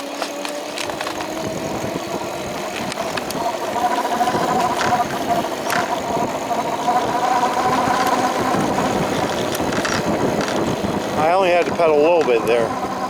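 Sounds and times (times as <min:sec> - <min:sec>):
electric bike motor whining: 0:00.0 - 0:13.0
wind and road noise: 0:00.0 - 0:13.0.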